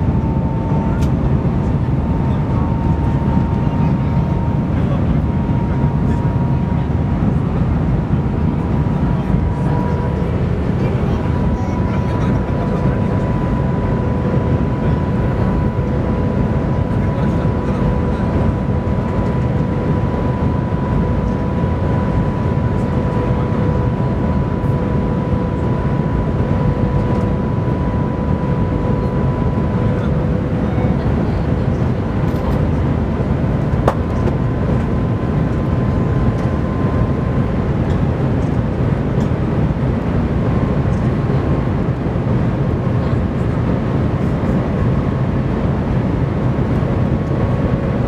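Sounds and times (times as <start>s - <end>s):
train cabin rumbling rush: 0.0s - 20.6s, 28.7s - 48.0s
high whine: 0.0s - 41.4s.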